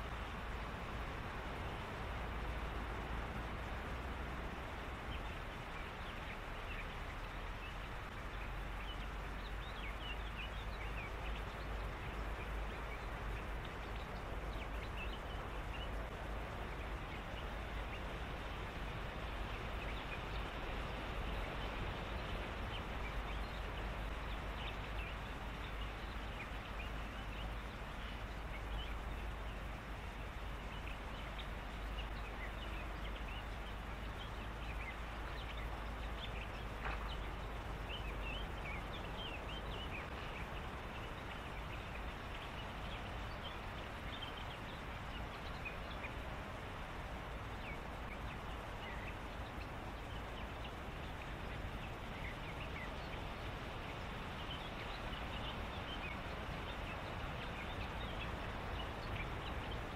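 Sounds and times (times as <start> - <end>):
low rumble and hiss: 0.0 - 59.9.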